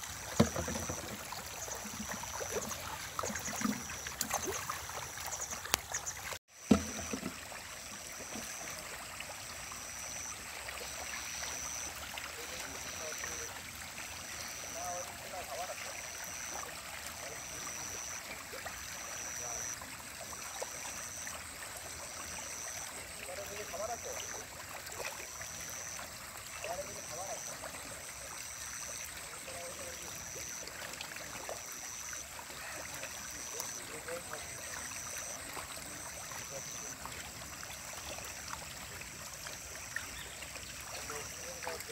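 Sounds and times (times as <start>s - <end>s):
water splashing and lapping: 0.0s - 41.9s.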